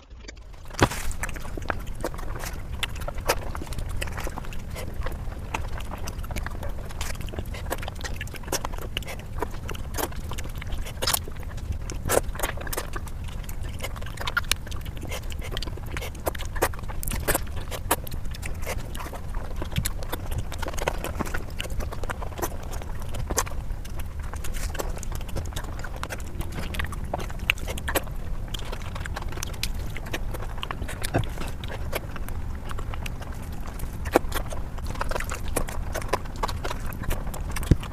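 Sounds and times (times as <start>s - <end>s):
person chewing food: 0.0s - 37.9s
wet mouth clicks and smacks: 0.2s - 37.9s.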